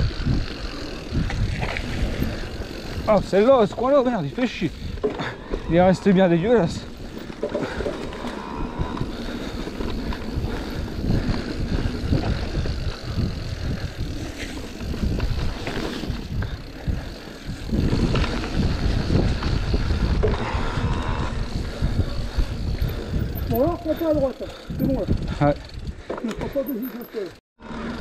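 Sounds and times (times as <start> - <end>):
bike rattling over bumps: 0.0 - 28.0.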